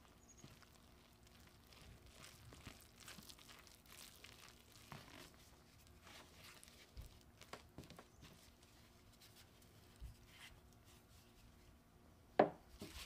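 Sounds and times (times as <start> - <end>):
spatula stirring dough in bowl: 0.0 - 11.1.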